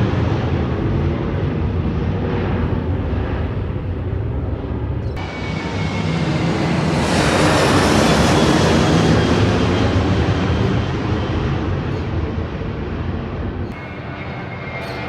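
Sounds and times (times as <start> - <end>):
airplane passing overhead: 0.0 - 15.0.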